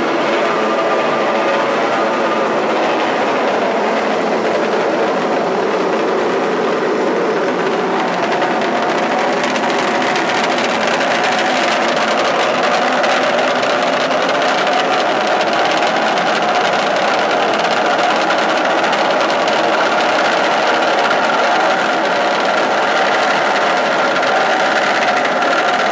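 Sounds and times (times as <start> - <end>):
small helicopter engines rattling: 0.0 - 25.9.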